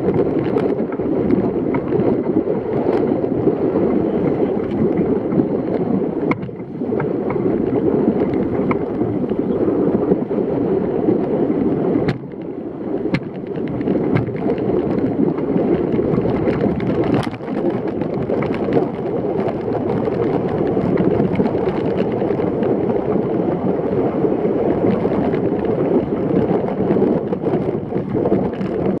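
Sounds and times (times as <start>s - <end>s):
water rushing past hulls: 0.0s - 29.0s
wind on microphone: 0.0s - 29.0s.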